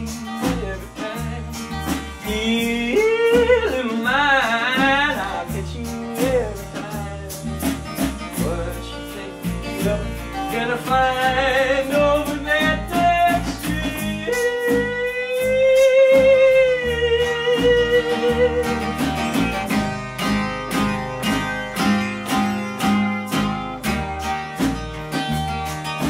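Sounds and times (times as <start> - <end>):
drums: 0.0 - 26.0
electric bass: 0.0 - 26.0
fingerpicked acoustic guitar: 0.0 - 26.0.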